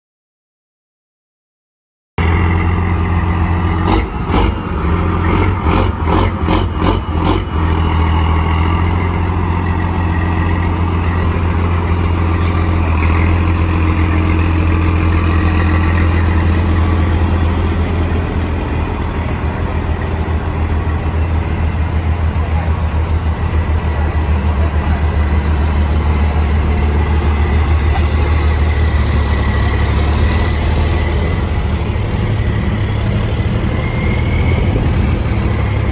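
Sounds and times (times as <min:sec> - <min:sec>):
diesel truck engine droning: 0:02.2 - 0:35.9.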